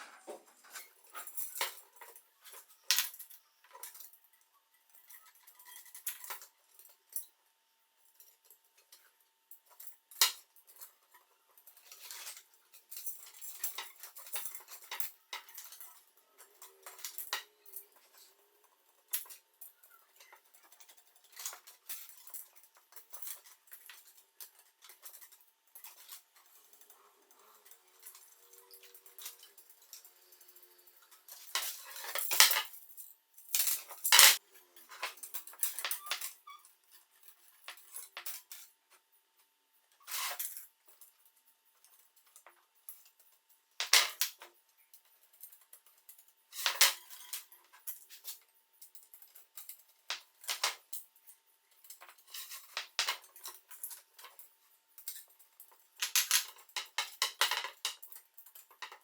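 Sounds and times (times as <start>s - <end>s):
metal parts and tools clinking: 0.0s - 7.4s, 8.2s - 38.7s, 39.9s - 41.2s, 41.8s - 59.0s.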